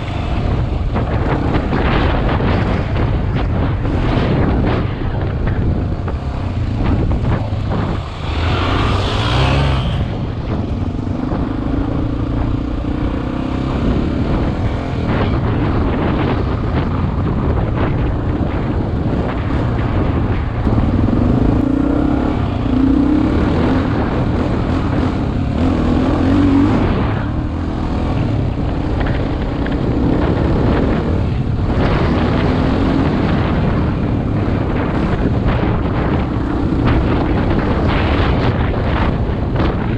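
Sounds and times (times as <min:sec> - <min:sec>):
motorcycle engine running: 0:00.0 - 0:39.9
wind noise on helmet camera: 0:00.0 - 0:39.9.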